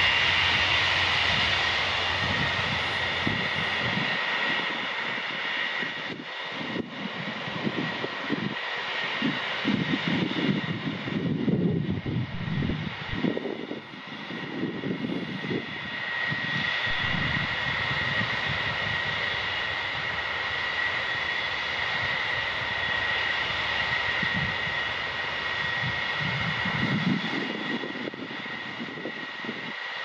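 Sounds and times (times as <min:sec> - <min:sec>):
wind rumbling on microphone: 0:00.0 - 0:29.9
jet engine whine: 0:00.0 - 0:30.0.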